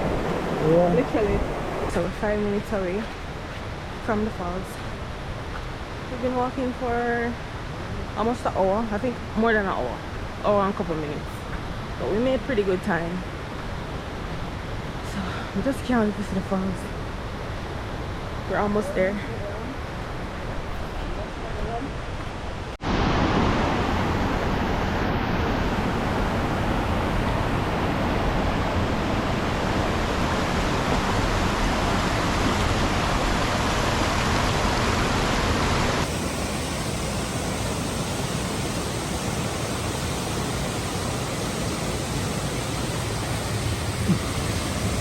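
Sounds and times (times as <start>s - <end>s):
rushing water roar: 0.0s - 45.0s.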